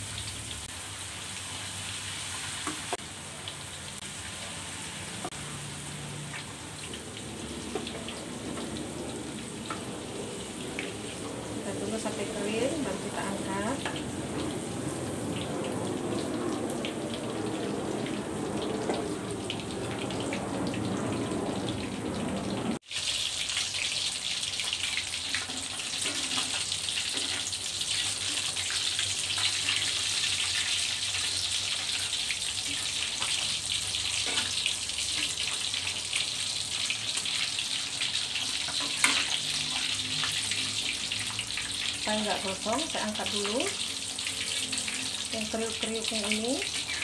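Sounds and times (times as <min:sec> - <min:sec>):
oil sizzling in a wok: 0:00.0 - 0:47.0.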